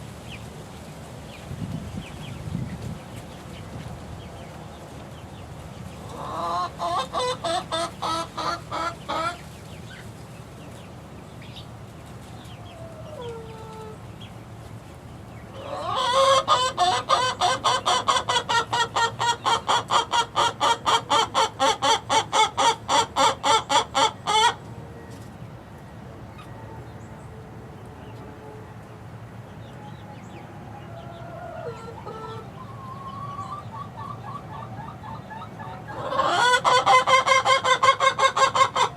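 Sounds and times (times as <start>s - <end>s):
young chickens calling: 0.1s - 38.9s.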